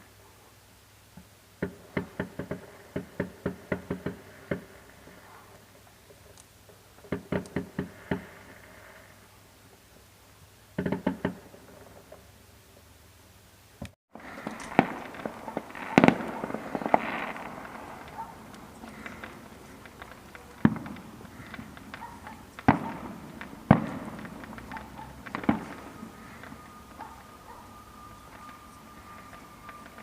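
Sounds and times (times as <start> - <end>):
fireworks crackling: 1.2 - 12.8, 13.8 - 30.0
fireworks bangs: 1.6 - 9.4, 10.7 - 12.4, 14.1 - 30.0.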